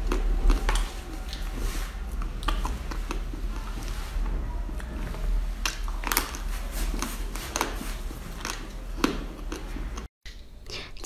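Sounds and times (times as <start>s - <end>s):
steady low hum: 0.0s - 10.1s
chewing candy: 0.0s - 11.0s.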